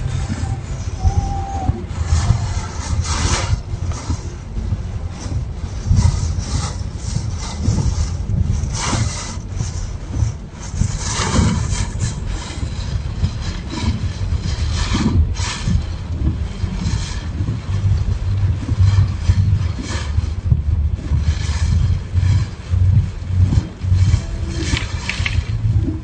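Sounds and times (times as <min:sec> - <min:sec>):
heavy wind rumble on microphone: 0:00.0 - 0:26.0.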